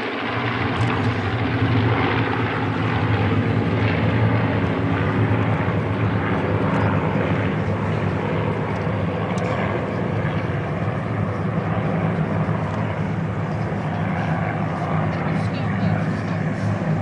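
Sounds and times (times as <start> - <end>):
propeller aircraft engines overhead: 0.0 - 17.0.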